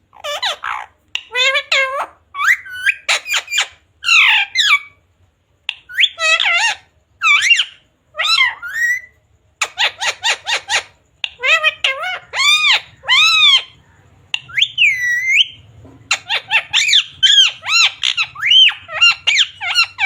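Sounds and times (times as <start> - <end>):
parrot squawking and chattering: 0.0 - 5.0, 5.6 - 20.0.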